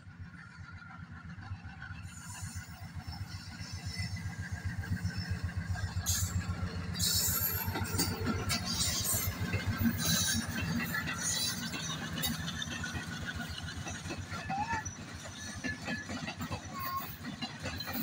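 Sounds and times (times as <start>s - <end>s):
diesel locomotive engines throbbing: 0.0s - 18.0s
wheels clanking on track: 0.0s - 18.0s.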